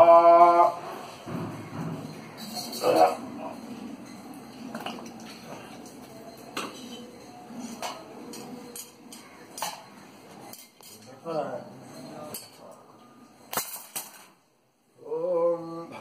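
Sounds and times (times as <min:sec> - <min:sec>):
metal vessels clinking: 0:01.0 - 0:14.4.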